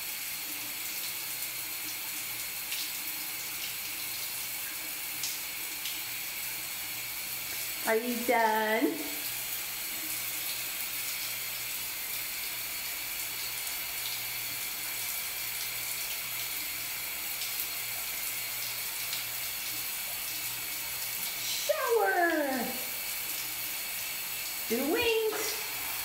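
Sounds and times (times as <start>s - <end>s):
shower water running: 0.0s - 26.0s.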